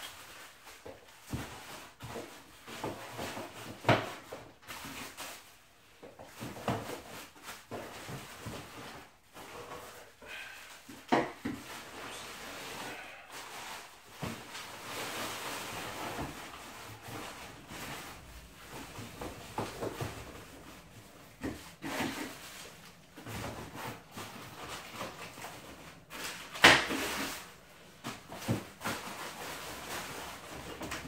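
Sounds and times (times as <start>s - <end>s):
plastic crinkling and rubbing: 0.0s - 31.0s.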